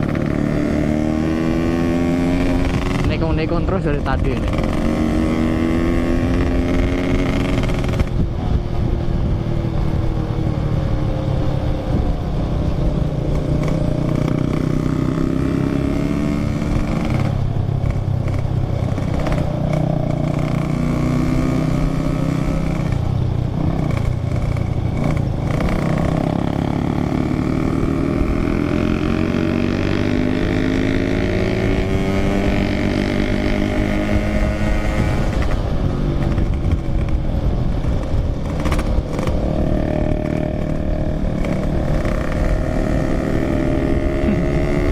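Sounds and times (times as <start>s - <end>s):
two-stroke motorcycle engine revving: 0.0s - 8.3s, 10.8s - 44.9s.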